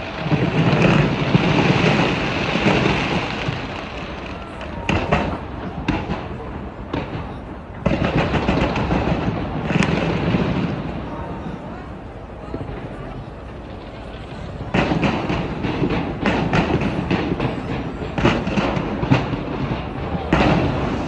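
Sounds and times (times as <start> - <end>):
fireworks bangs and crackles: 0.0 - 21.0
noisy crowd: 0.0 - 21.0.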